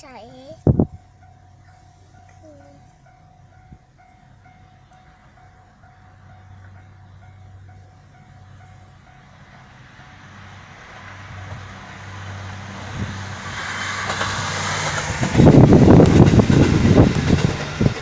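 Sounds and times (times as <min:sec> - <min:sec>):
train passing with rumble: 0:00.0 - 0:18.0
wheels clattering on rails: 0:00.0 - 0:18.0.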